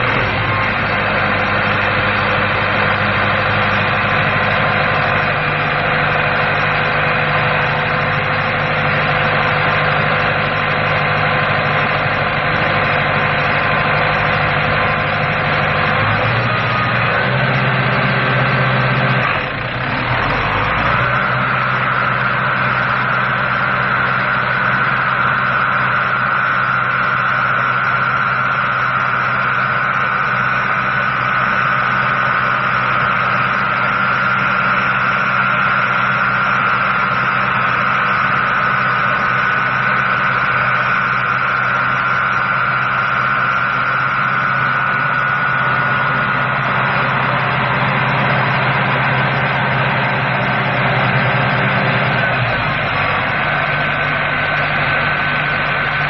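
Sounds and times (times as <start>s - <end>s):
demolition saw whining drone: 0.0s - 56.0s.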